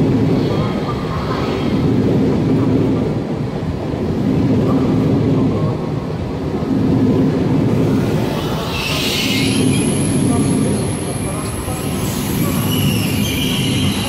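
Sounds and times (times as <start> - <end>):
electric train rumbling past: 0.0 - 14.0.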